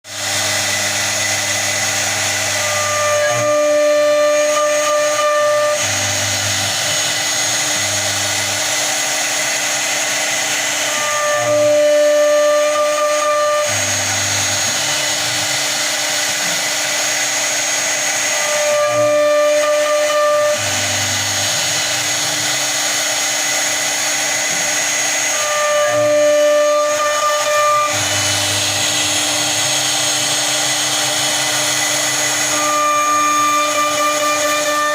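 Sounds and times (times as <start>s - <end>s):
cnc router spindle whine: 0.1s - 34.9s.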